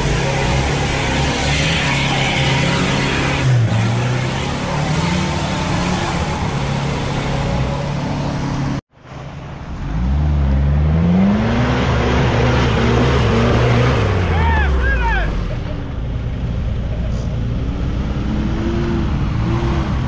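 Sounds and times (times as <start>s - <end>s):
engine revving in mud: 0.0s - 8.8s, 9.7s - 15.7s, 17.5s - 20.0s.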